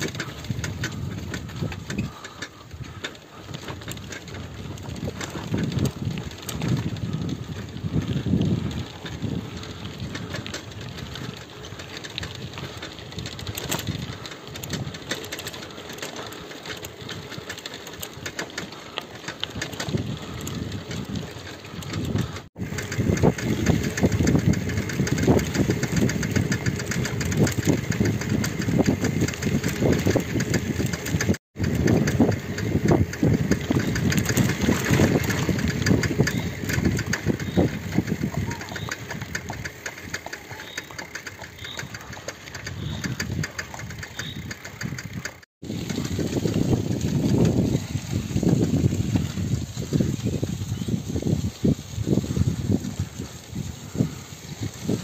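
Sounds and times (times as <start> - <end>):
bicycle tyres crunching on gravel: 0.0 - 55.0
bike rattling: 0.0 - 55.0.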